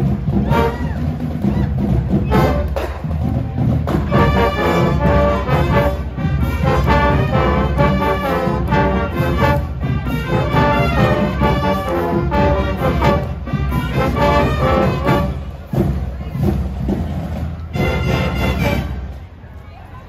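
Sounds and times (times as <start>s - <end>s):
marching band playing: 0.0s - 19.4s.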